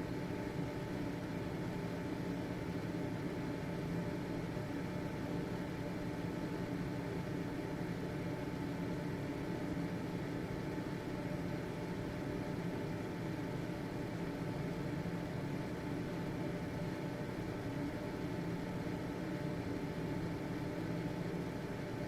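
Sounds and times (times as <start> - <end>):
ventilation fan running: 0.0 - 22.0.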